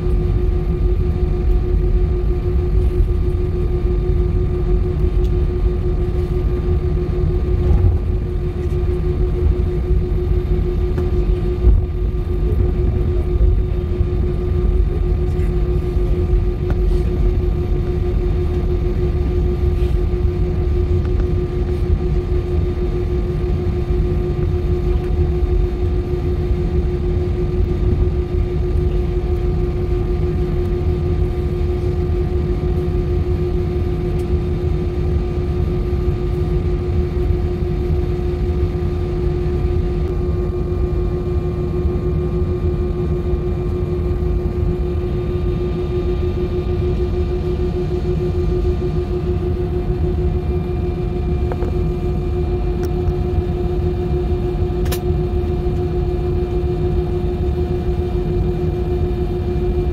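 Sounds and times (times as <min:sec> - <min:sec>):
jet engines low rumble: 0:00.0 - 0:59.9
steady engine hum: 0:00.0 - 0:59.9.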